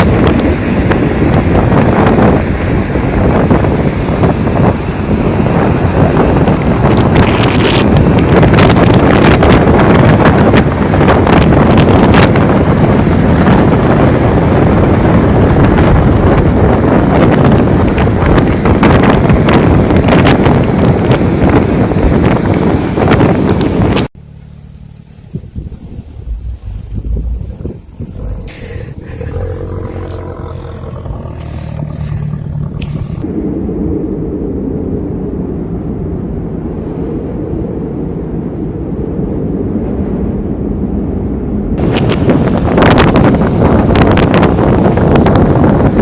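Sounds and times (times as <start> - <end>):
wind buffeting microphone: 0.0 - 24.1, 25.1 - 46.0
low rumble: 0.0 - 46.0.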